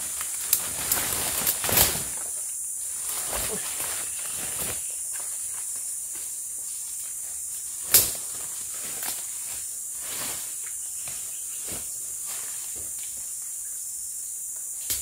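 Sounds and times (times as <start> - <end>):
brush rustling: 0.0 - 13.4
insects droning: 0.0 - 15.0.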